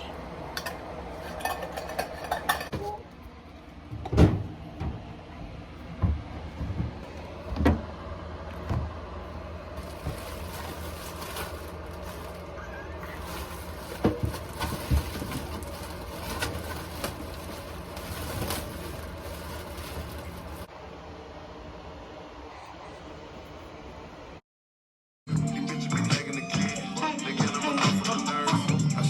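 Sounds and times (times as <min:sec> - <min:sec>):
steady low hum: 0:00.0 - 0:24.4.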